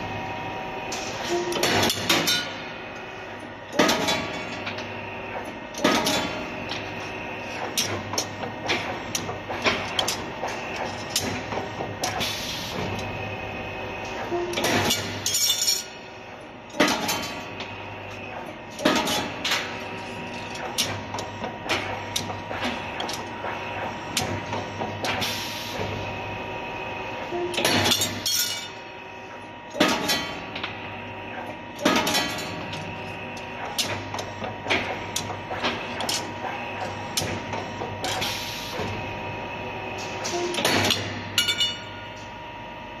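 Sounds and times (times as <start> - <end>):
motor and gearbox hum: 0.0 - 43.0.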